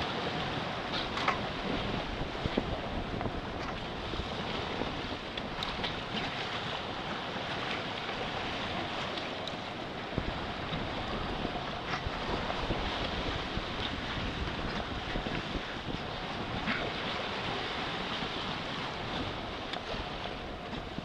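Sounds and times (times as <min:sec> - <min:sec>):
sea water rushing along hull: 0:00.0 - 0:21.0
wind buffeting microphone: 0:00.0 - 0:21.0.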